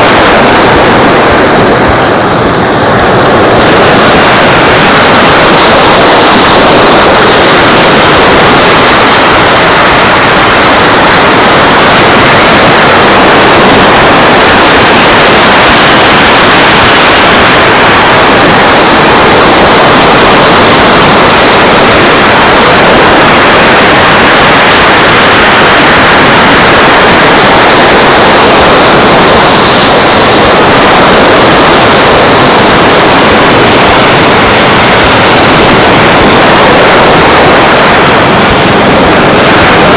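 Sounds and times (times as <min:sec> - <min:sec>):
surf rushing: 0:00.0 - 0:39.9
wind: 0:00.0 - 0:39.9.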